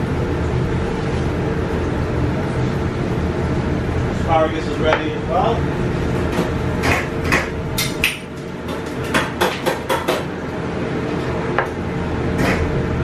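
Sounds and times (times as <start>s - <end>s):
kitchen extraction hum: 0.0s - 13.0s.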